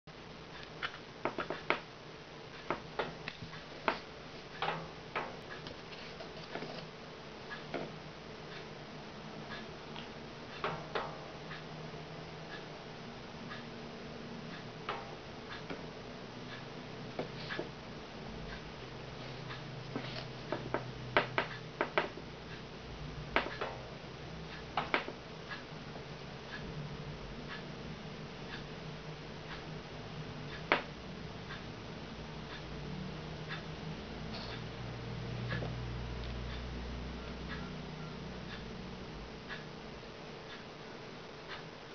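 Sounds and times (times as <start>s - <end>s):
faint low hum: 0.1s - 41.9s.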